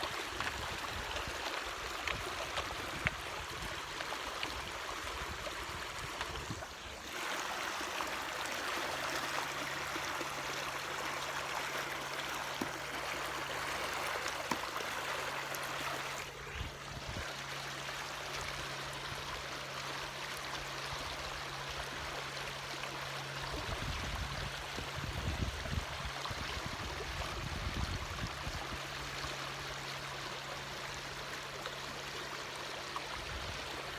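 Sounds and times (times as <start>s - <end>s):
water rushing along hull: 0.0s - 33.9s.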